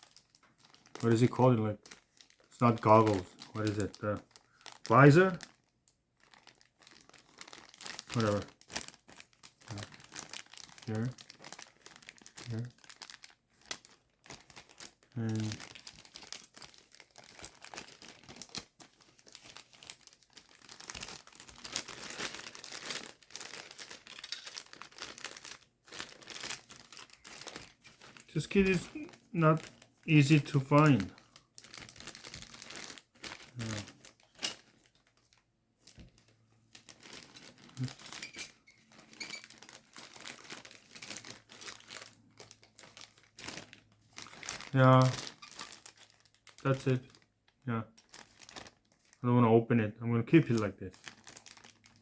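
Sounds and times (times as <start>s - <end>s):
plastic packaging crinkling: 0.0s - 49.2s, 50.4s - 52.0s.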